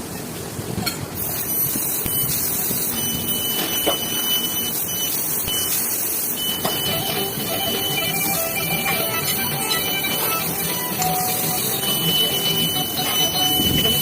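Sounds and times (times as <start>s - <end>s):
laser cutter hissing: 1.2s - 14.0s
thin high whine: 1.2s - 14.0s.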